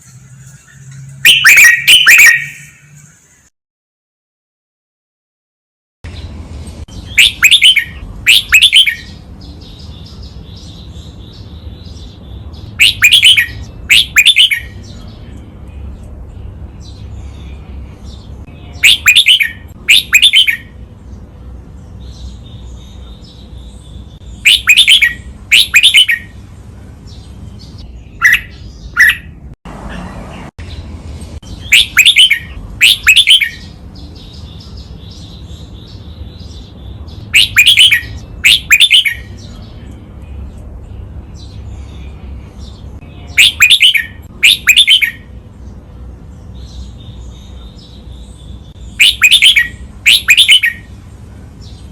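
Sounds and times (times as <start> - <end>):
bulbul singing: 0.0 - 3.5, 6.1 - 51.9
faint bird chirping: 6.1 - 29.4, 30.0 - 51.9.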